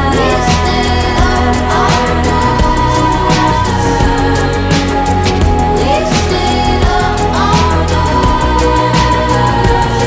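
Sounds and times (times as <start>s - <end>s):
rising synth sweep: 0.0s - 10.0s
synth music with steady beat: 0.0s - 10.0s.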